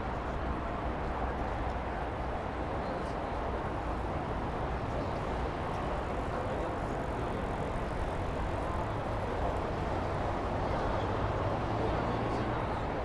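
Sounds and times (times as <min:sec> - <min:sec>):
urban night ambience: 0:00.0 - 0:13.0.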